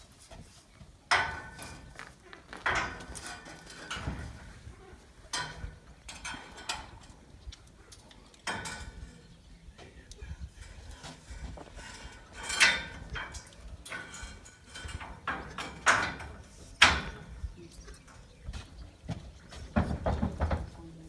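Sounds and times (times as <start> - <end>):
steel scaffold parts clanking: 0.9 - 18.3.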